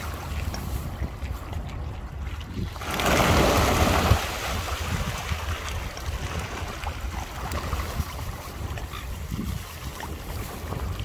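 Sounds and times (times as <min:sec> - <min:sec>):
birds splashing in water: 0:00.0 - 0:11.0
wind rumble on microphone: 0:00.0 - 0:11.0.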